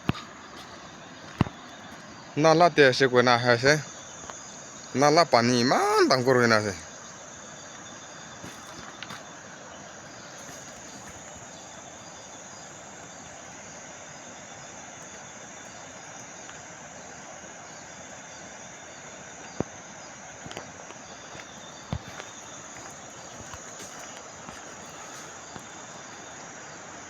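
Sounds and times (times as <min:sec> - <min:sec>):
background hiss: 0:00.0 - 0:27.0
insects chirring: 0:00.0 - 0:27.0.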